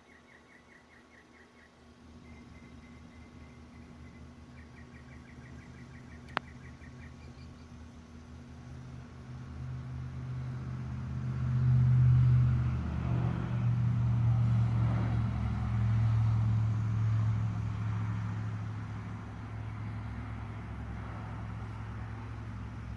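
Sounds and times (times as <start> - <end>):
vehicle engine running: 1.8 - 22.9.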